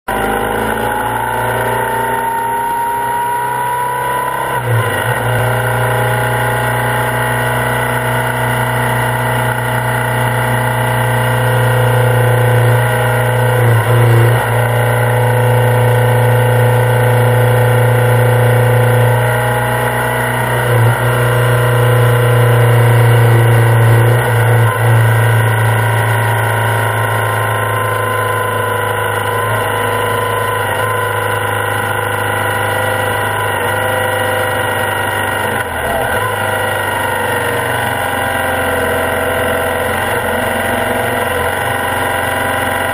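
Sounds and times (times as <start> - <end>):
motorcycle engine accelerating: 0.1 - 42.9.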